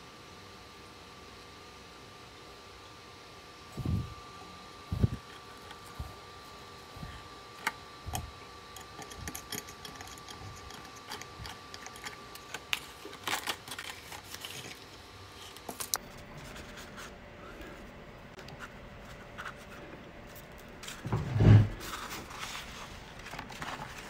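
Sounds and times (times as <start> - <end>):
faint thin whine: 0.0 - 24.0.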